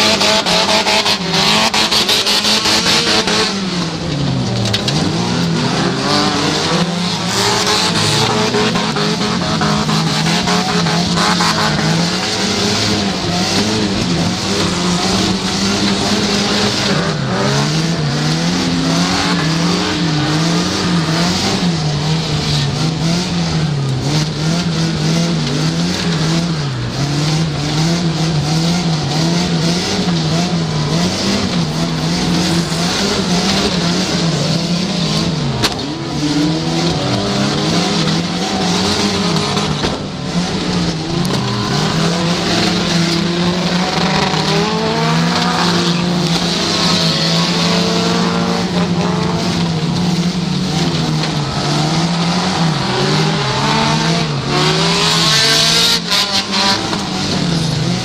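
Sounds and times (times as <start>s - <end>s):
other race cars revving: 0.0s - 58.0s
race car engine revving: 0.0s - 58.0s.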